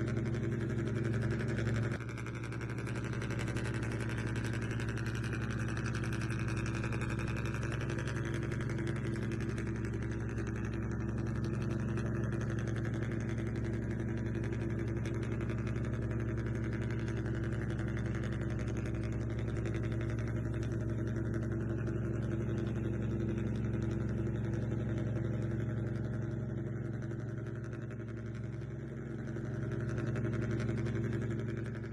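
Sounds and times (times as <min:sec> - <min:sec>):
model engine idling hum: 0:00.0 - 0:31.9.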